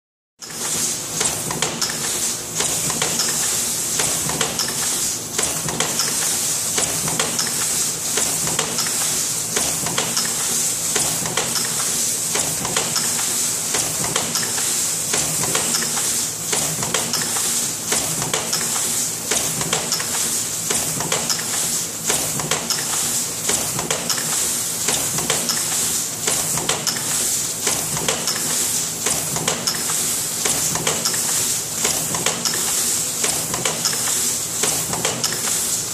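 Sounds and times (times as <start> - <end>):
press steady hiss: 0.5 - 35.9.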